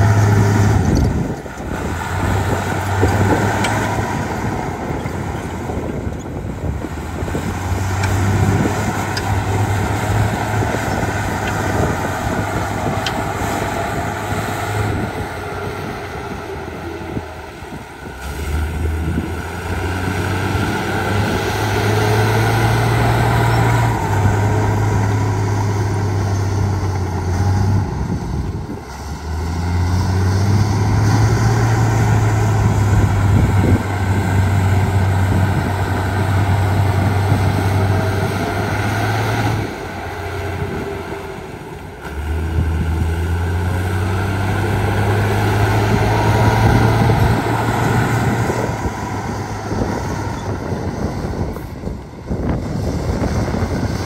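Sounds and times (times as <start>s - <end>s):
diesel machinery engine droning: 0.0s - 54.0s.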